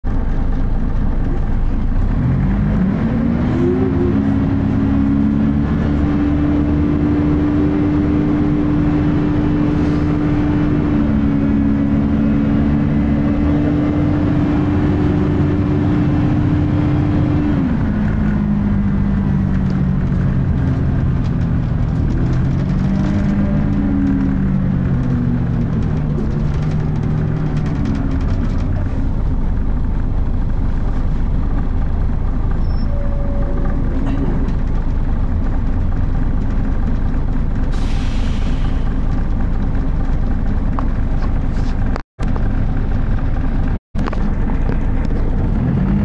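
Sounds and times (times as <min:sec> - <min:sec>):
bus diesel engine revving: 0:00.3 - 0:46.0.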